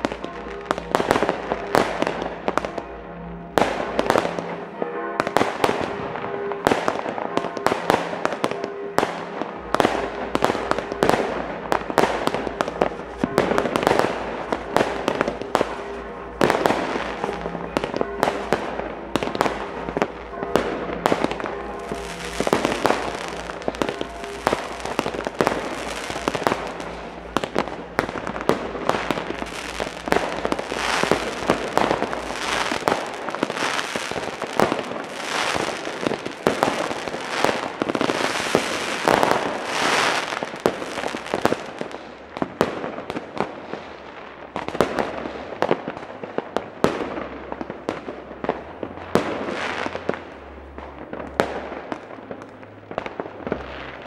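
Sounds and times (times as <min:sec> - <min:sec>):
fireworks crackling and hissing: 0:00.0 - 0:04.6, 0:05.2 - 0:54.0
fireworks bangs: 0:00.0 - 0:54.0.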